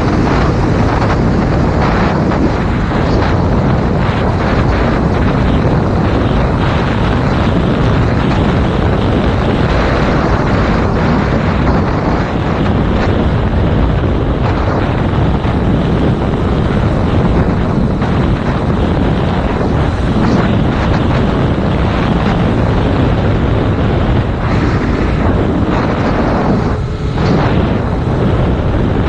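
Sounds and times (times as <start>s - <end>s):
wind buffeting a microphone: 0.0s - 29.0s.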